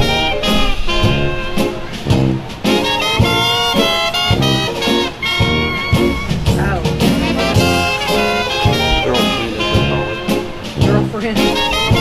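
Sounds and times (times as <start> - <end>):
swing jazz with brass horns: 0.0 - 12.0.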